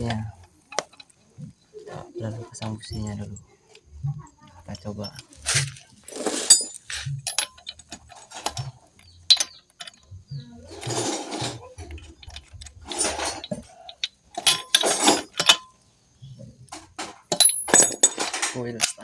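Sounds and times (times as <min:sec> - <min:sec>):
metal tools clinking and scraping: 0:00.0 - 0:19.0.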